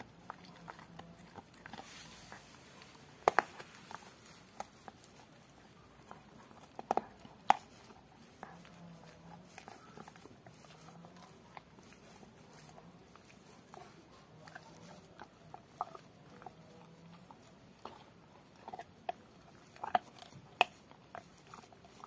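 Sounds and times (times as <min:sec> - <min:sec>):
teeth clicking on bone: 0:00.0 - 0:02.0, 0:02.8 - 0:22.0.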